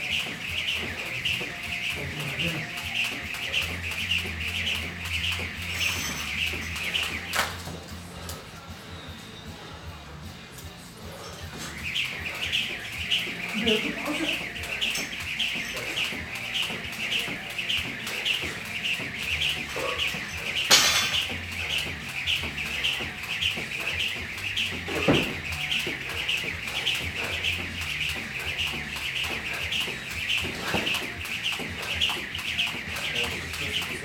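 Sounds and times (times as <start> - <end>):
jump rope whirring: 0.0 - 34.0.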